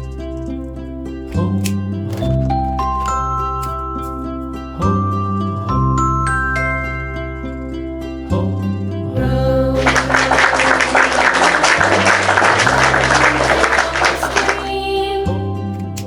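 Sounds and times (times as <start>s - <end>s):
children's nursery rhyme music: 0.1s - 16.0s.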